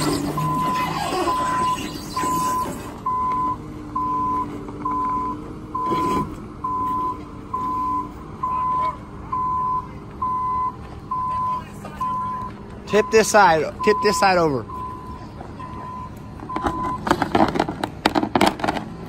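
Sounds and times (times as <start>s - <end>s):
reversing alarm beeping: 0.0s - 17.1s
engine running: 0.0s - 19.0s.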